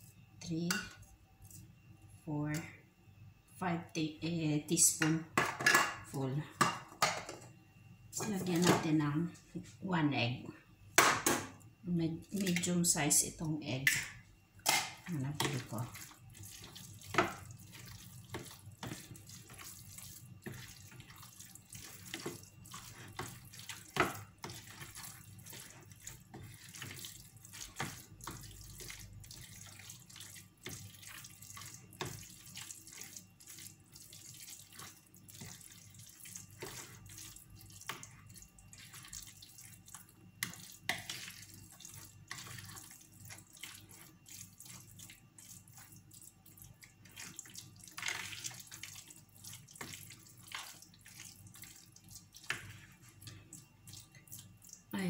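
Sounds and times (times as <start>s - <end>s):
wet mixing sounds: 0.0s - 2.8s, 3.5s - 7.0s, 8.1s - 55.0s.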